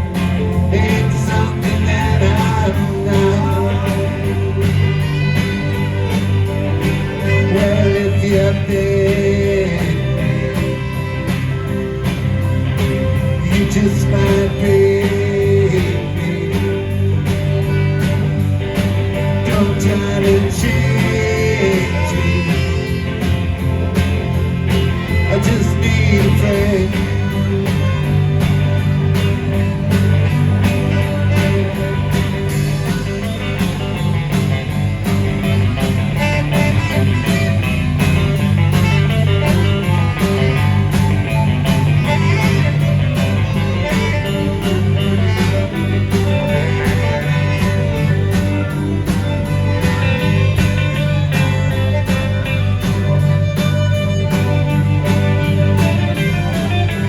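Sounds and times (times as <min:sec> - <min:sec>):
electric guitar: 0:00.0 - 0:57.0
rock band playing: 0:00.0 - 0:57.0.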